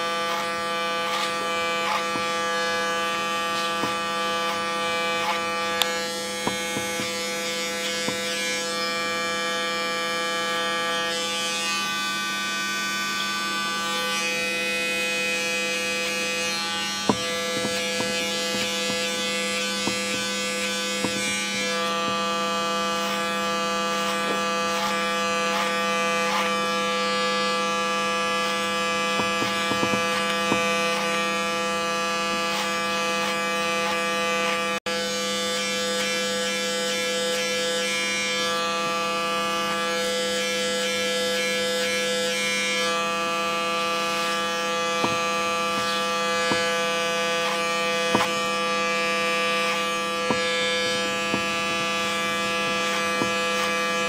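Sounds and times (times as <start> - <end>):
electric hair clipper buzzing: 0.0 - 54.0.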